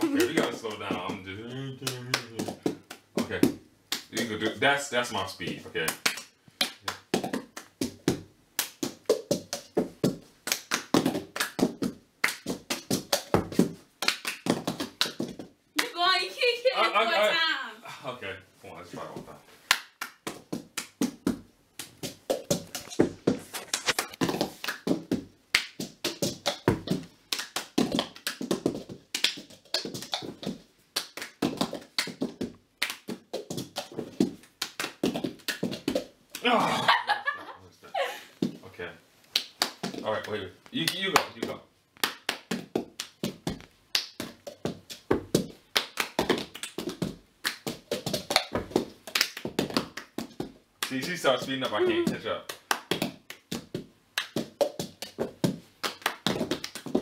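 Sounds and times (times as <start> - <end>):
hands clapping: 0.0 - 16.1, 19.7 - 36.9, 39.3 - 57.0.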